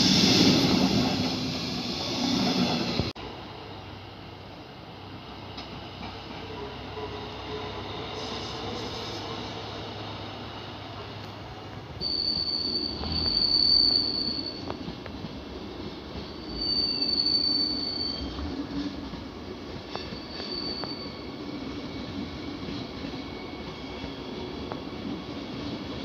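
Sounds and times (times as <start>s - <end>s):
train wheels squealing on rails: 0.0s - 4.1s, 5.0s - 26.0s
low train rumble: 0.0s - 26.0s.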